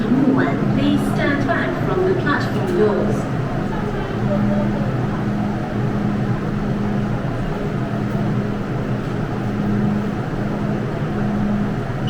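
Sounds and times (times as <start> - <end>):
train low hum and rumble: 0.0 - 12.0.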